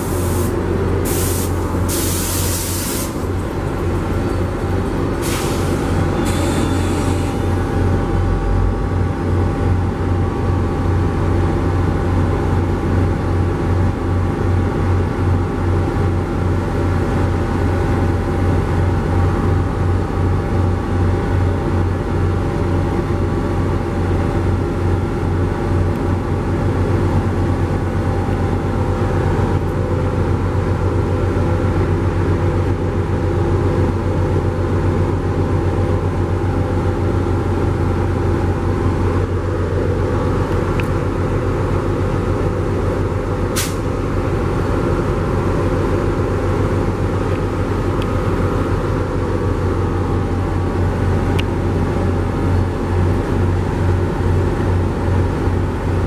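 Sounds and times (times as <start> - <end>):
diesel locomotive idling: 0.0 - 56.0.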